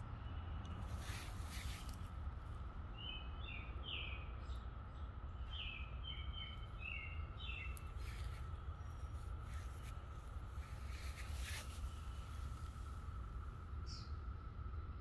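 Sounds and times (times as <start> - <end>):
cicada chorus hum: 0.0 - 15.0
low wind rumble: 0.0 - 15.0
songbird chirping: 0.0 - 15.0.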